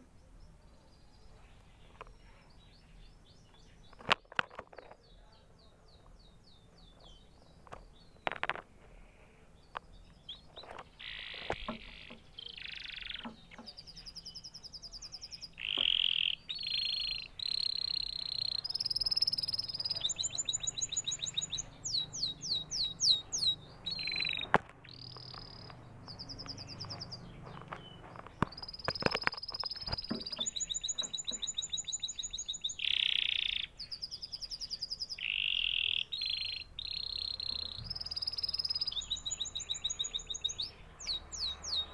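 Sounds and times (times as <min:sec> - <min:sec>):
canary singing: 0:00.0 - 0:41.9.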